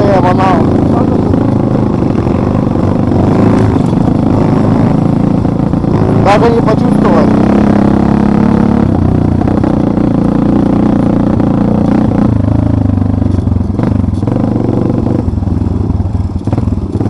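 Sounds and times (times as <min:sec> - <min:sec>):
off-road vehicle engine running: 0:00.0 - 0:17.0
vehicle rattling: 0:00.0 - 0:17.0.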